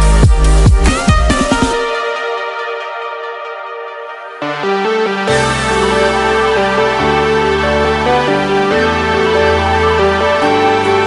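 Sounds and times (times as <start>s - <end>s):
background music with held chords: 0.0s - 11.0s.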